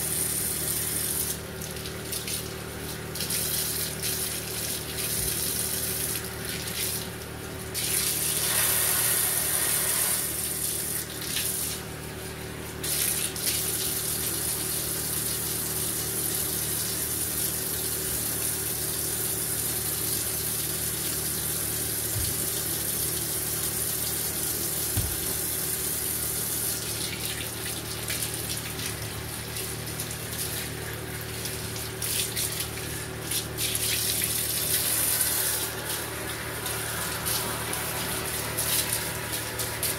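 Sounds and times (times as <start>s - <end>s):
shower water splashing into tub: 0.0s - 39.9s.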